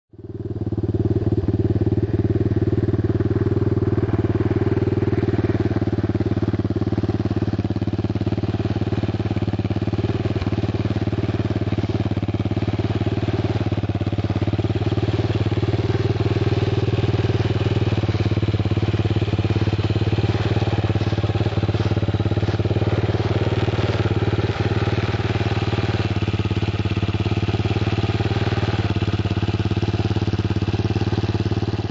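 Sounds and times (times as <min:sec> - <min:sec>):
motorcycle engine idling: 0:00.1 - 0:31.9.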